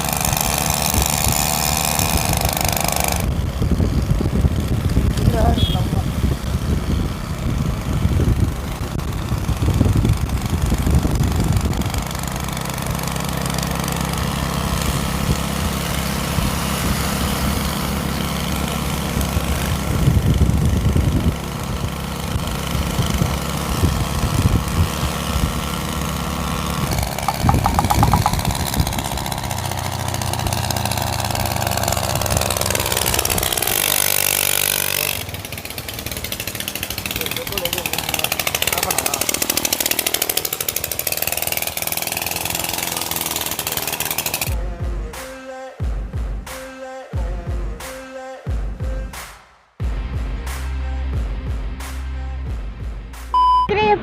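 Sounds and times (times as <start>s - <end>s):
loud moped engine running: 0.0s - 49.2s, 49.8s - 53.2s.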